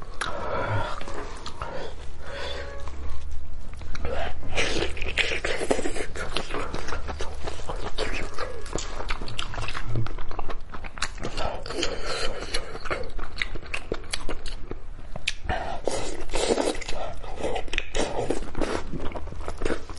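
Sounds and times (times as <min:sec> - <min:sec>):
chewing with wet mouth sounds: 0:02.8 - 0:19.9.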